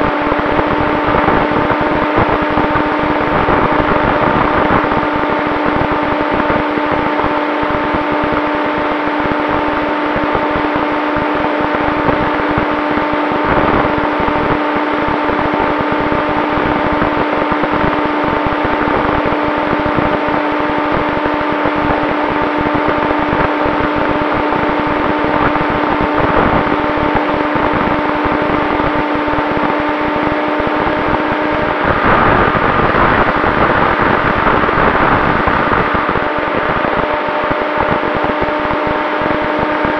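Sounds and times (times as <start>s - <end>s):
electric motor hum: 0.0s - 39.9s
wind rushing over microphone: 0.0s - 39.9s.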